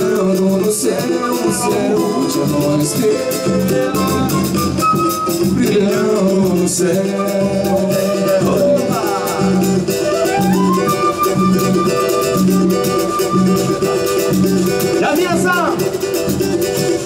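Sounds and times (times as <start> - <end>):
bass drum: 0.0 - 17.0
steady percussion: 0.0 - 17.0
strummed cavaquinho: 0.0 - 17.0
flute melody: 0.8 - 6.3, 6.9 - 16.2.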